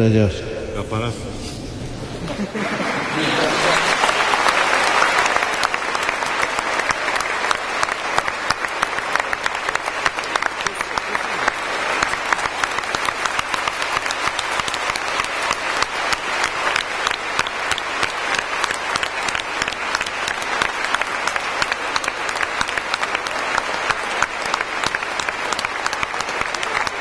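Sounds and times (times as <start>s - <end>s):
crowd applauding: 2.2s - 27.0s.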